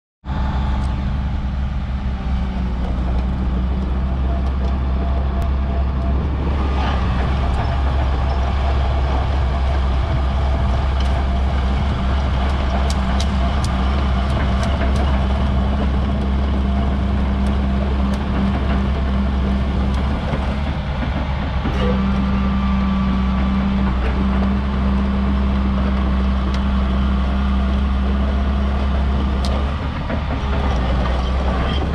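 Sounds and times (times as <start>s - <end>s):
excavator diesel engine running: 0.2s - 31.9s
hydraulic whine: 0.3s - 31.9s.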